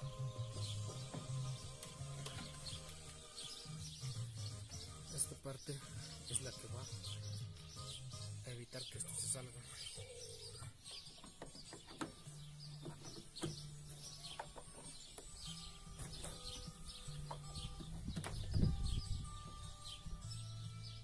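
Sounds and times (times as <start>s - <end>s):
birds chirping: 0.0s - 21.0s
faint background music: 0.0s - 21.0s.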